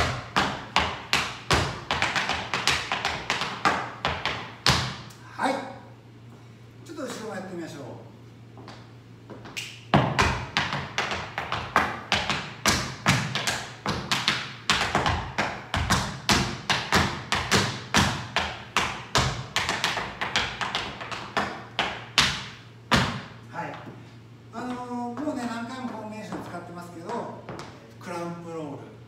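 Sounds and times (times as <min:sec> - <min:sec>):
tap shoes on wooden floor: 0:00.0 - 0:05.0, 0:08.6 - 0:24.0, 0:24.6 - 0:27.8.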